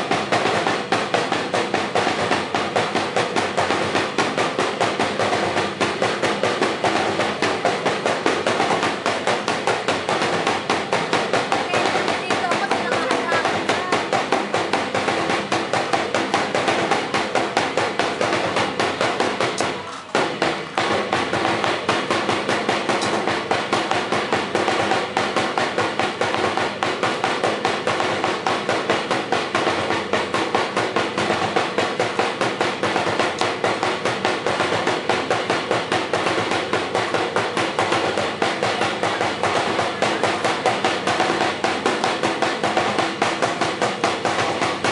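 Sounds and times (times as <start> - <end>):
drum-driven dance music: 0.0 - 44.9.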